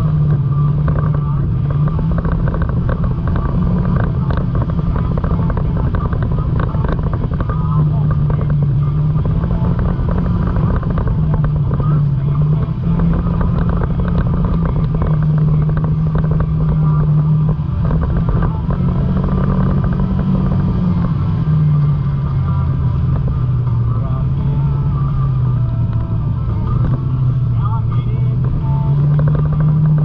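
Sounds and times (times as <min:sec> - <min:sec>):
off-road vehicle engine droning: 0:00.0 - 0:30.0.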